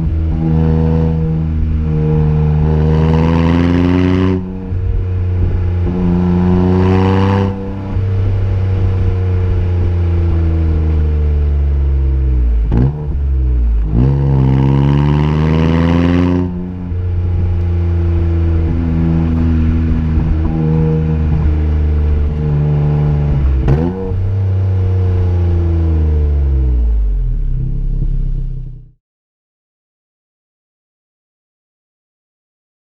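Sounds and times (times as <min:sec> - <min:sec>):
car engine exhaust with throttle blips: 0:00.0 - 0:29.0.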